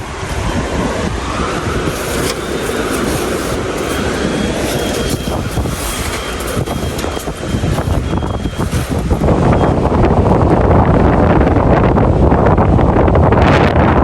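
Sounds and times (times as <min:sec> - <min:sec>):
strong blizzard wind: 0:00.0 - 0:14.0
wind buffeting microphone: 0:00.0 - 0:14.0.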